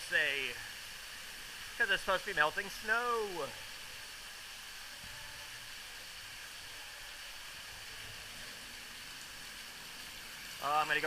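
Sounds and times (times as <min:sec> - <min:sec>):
water splashing from waterfall: 0:00.0 - 0:11.0.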